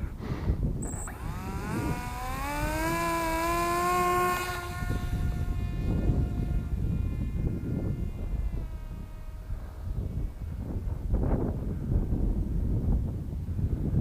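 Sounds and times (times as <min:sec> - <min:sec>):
electric motor and propeller whining: 0:00.0 - 0:14.0
wind buffeting microphone: 0:00.0 - 0:14.0.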